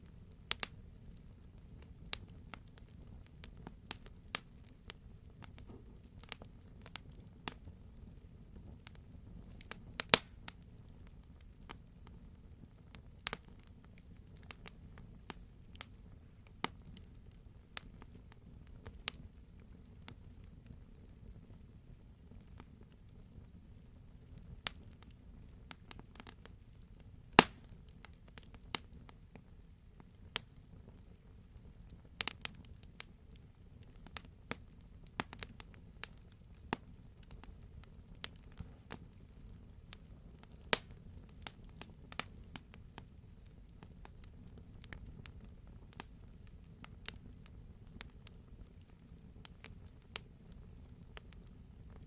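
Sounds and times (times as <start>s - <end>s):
low rumble of burning: 0.0s - 52.0s
wood fire popping and snapping: 0.0s - 52.0s.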